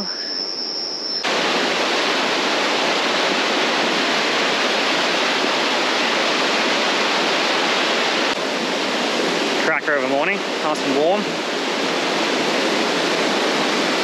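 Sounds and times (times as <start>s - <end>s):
river rushing through rapids: 1.2s - 14.0s.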